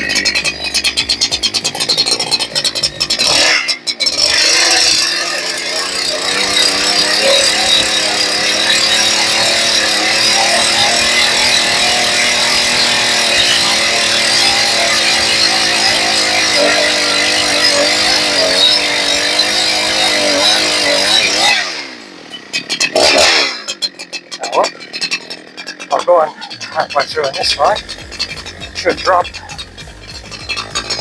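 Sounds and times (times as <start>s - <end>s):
chainsaw cutting log: 0.0s - 31.0s.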